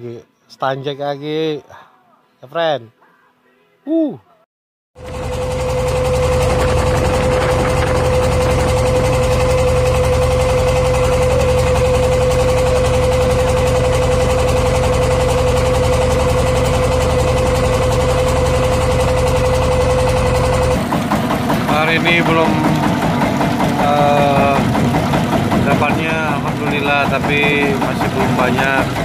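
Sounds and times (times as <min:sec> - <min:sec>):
boat engine humming: 0:05.0 - 0:29.0.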